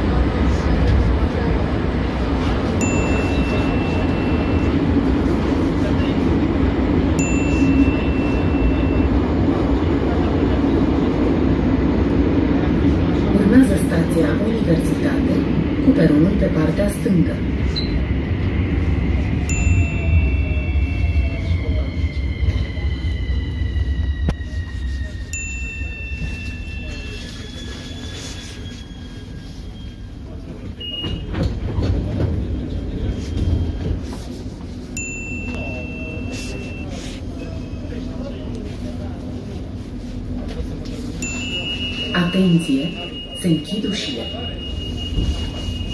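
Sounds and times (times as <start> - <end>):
metro train rumbling: 0.0 - 45.9.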